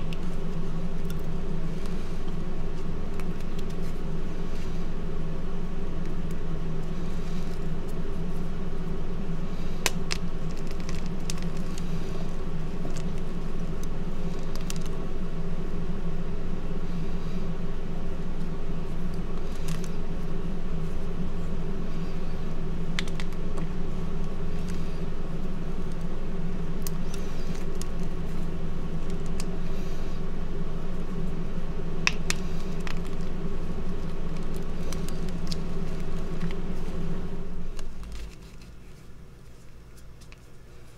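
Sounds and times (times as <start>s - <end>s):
steady background hum: 0.0s - 40.9s.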